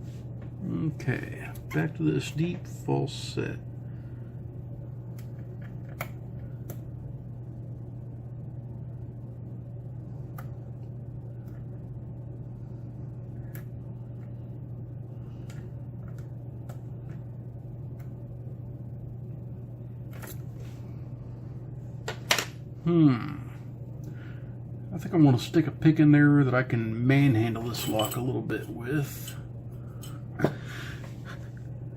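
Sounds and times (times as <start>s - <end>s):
low hum: 0.0s - 31.9s.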